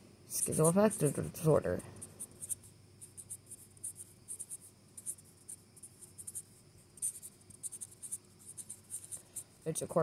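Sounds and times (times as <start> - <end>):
marker scratching on paper: 0.3 - 9.6.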